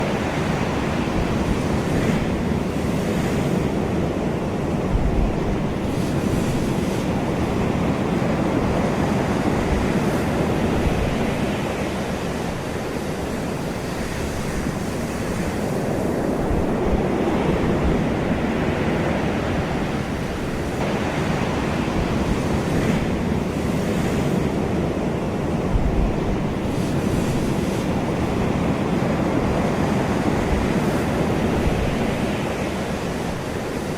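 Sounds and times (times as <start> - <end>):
ocean waves breaking on shore: 0.0 - 33.9
wind rumble on microphone: 0.0 - 33.9.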